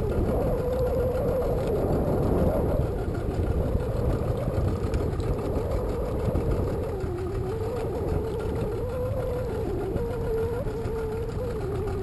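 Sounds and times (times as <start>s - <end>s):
small boat motor running: 0.0s - 12.0s.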